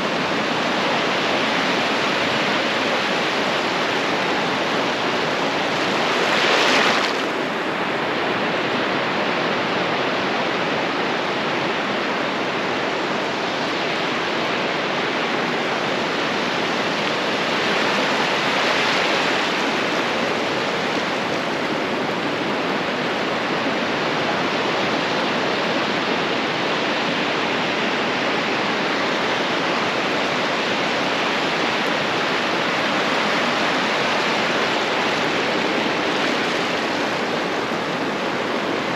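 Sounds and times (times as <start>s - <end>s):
ocean waves breaking on a beach: 0.0s - 38.9s.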